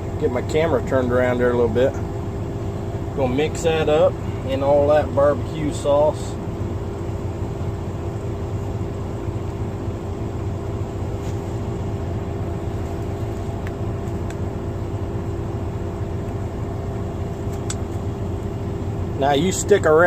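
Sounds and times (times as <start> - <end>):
semi truck idling: 0.0 - 20.0.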